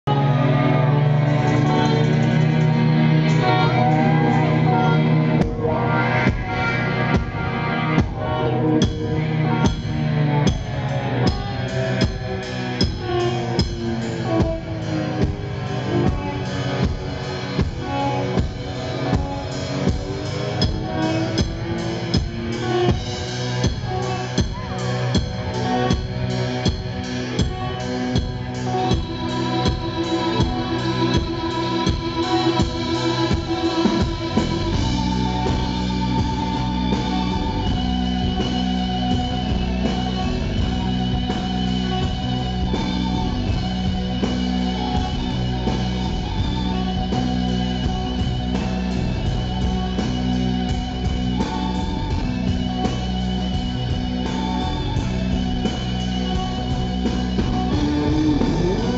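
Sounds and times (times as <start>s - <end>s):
keyboard: 0.0s - 58.9s
live rock band playing: 0.1s - 58.9s
steady drumbeat: 1.3s - 58.9s.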